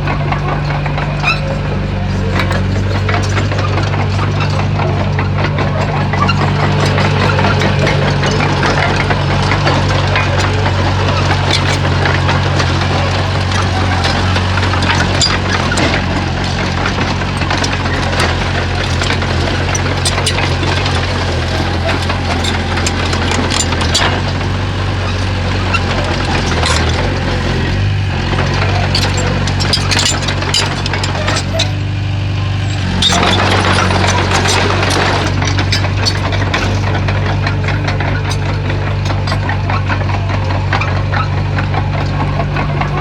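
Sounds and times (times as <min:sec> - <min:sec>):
bulldozer diesel engine running: 0:00.0 - 0:43.0
short clanks and knocks: 0:00.0 - 0:43.0.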